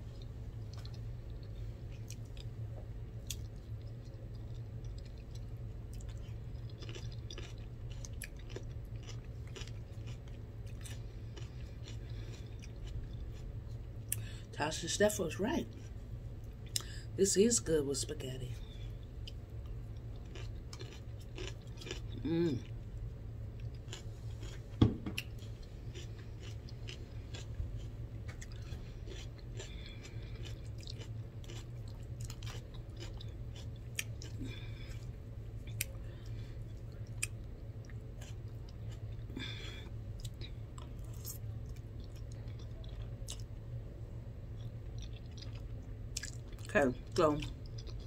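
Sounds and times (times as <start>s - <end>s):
steady low hum: 0.0s - 48.0s
person chewing: 0.1s - 14.4s, 15.7s - 16.9s, 19.1s - 22.8s, 23.4s - 43.6s, 44.5s - 46.7s, 47.4s - 48.0s.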